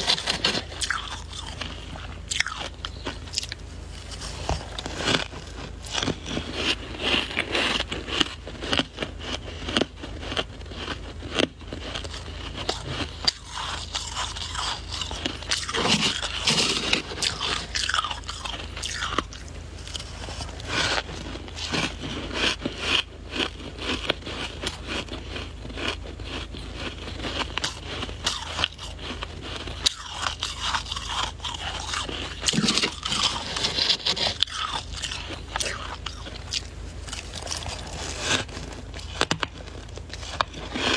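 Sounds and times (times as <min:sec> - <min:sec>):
crunching ice chewing: 0:00.0 - 0:40.9.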